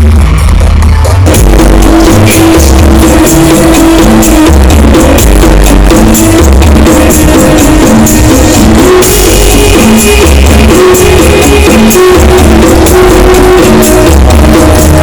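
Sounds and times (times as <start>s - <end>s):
loud electronic dance music: 0.0s - 15.0s.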